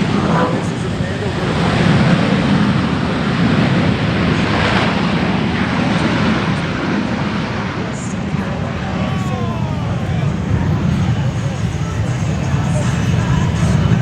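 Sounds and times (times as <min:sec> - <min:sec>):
jet engines running loudly: 0:00.0 - 0:14.0.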